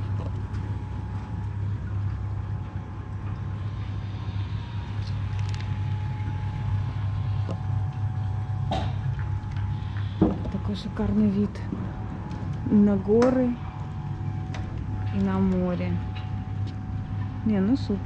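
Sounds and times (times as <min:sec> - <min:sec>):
faint steady whine: 0:00.0 - 0:18.0
low mechanical hum: 0:00.0 - 0:18.0.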